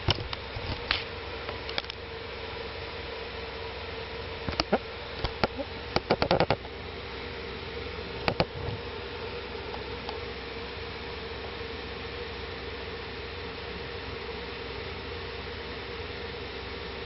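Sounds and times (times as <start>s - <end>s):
steady buzzing hum: 0.0s - 17.0s.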